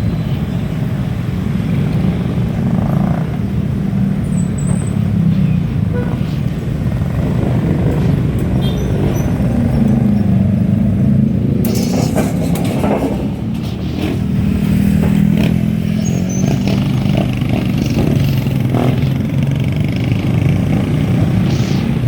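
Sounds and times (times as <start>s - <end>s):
bike road noise: 0.0s - 22.0s
wind: 0.0s - 22.0s.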